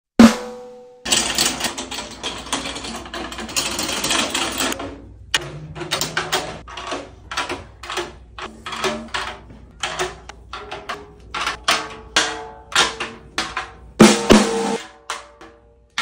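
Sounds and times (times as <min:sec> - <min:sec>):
drum key clicking and rattling: 0:01.0 - 0:15.6.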